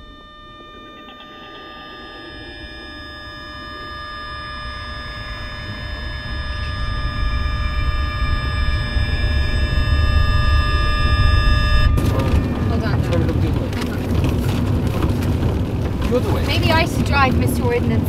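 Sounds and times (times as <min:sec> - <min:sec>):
low rumbling drone: 0:00.0 - 0:18.0
sustained high ringing tones: 0:00.0 - 0:18.0.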